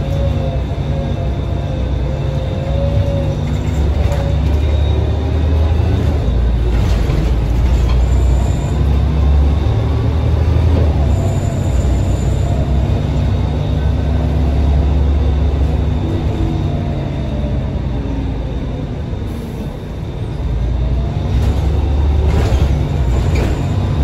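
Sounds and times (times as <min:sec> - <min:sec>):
bus engine rumble: 0:00.0 - 0:24.0
road noise: 0:00.0 - 0:24.0.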